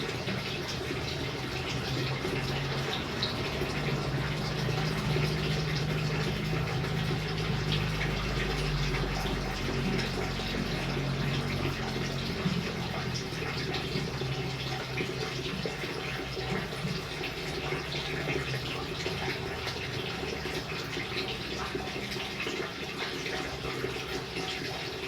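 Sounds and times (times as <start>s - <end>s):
water drips and splashes: 0.0s - 25.0s.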